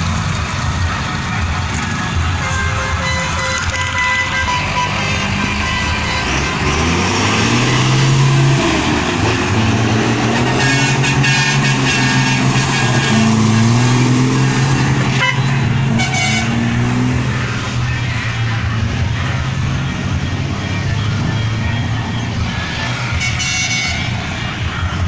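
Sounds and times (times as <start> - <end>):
heavy truck engines running: 0.0 - 25.0
truck horns tooting: 0.0 - 25.0.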